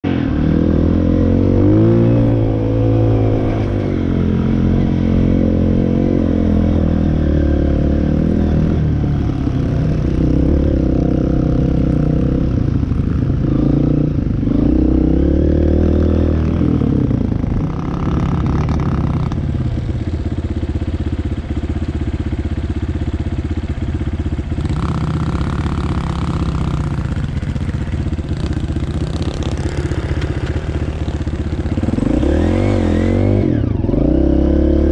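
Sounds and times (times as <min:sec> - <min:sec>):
off-road vehicle engine revving: 0:00.2 - 0:19.5, 0:24.6 - 0:34.9.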